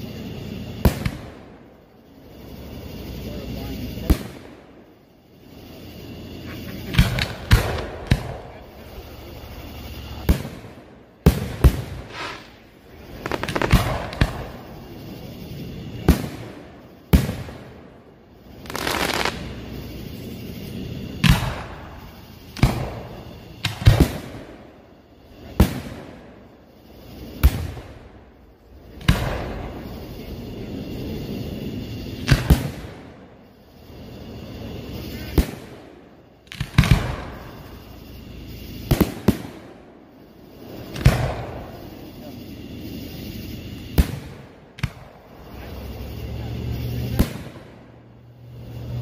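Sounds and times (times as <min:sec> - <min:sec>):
fireworks bangs: 0:00.0 - 0:01.7, 0:03.0 - 0:04.8, 0:06.4 - 0:24.7, 0:25.4 - 0:26.4, 0:27.0 - 0:28.3, 0:28.9 - 0:30.5, 0:31.8 - 0:33.3, 0:34.2 - 0:39.9, 0:40.6 - 0:42.4, 0:43.0 - 0:48.8
fireworks hiss and rumble: 0:00.0 - 0:49.0.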